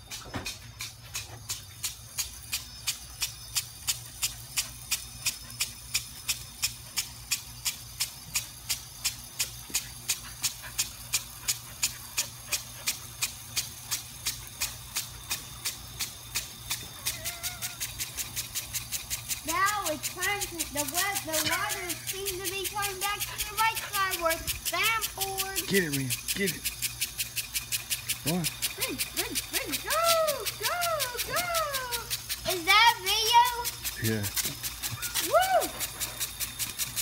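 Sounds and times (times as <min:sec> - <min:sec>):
impact sprinkler clicking: 0:00.0 - 0:37.0
water spray hiss: 0:00.0 - 0:37.0.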